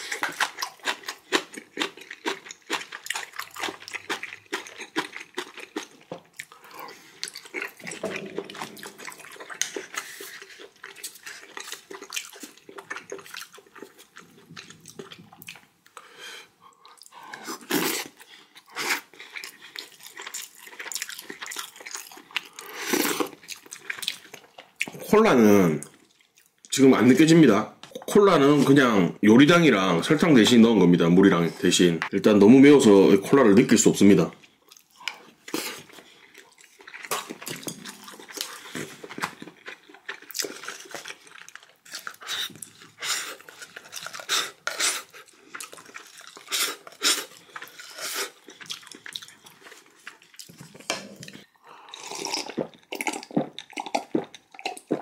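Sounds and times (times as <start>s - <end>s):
close chewing and mouth smacking: 0.0s - 26.8s, 34.3s - 55.0s.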